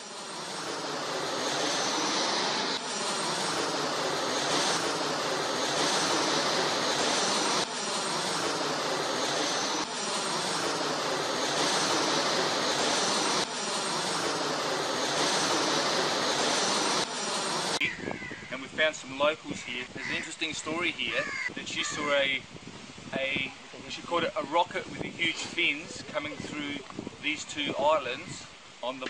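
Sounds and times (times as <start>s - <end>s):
jet aircraft engine rushing: 0.0s - 27.6s.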